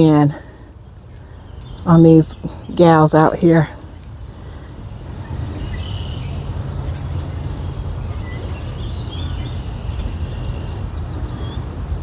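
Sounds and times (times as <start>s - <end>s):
small birds chirping faintly: 0.0s - 12.0s
wind rumble on microphone: 0.0s - 12.0s.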